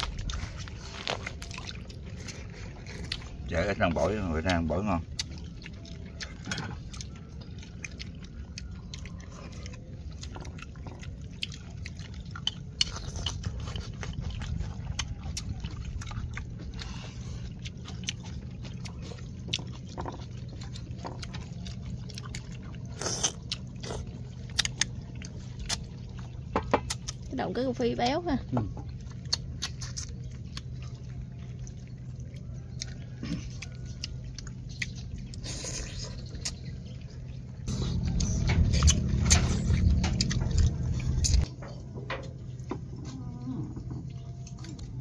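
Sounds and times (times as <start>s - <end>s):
people chewing: 0.0s - 45.0s
steady low rumble: 0.0s - 45.0s.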